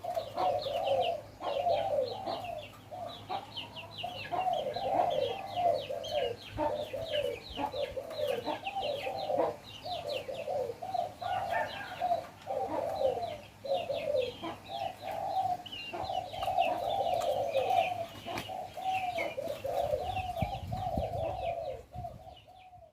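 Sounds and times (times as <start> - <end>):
doves cooing: 0.0 - 22.9
small birds chirping: 0.0 - 22.9.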